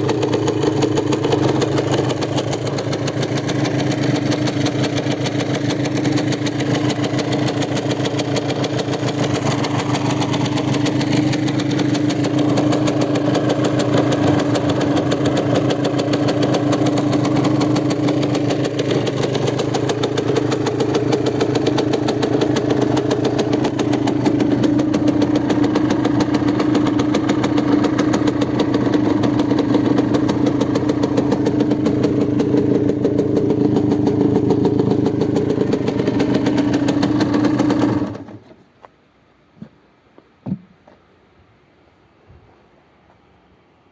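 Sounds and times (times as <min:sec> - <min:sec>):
two-stroke engine idling: 0:00.0 - 0:38.5.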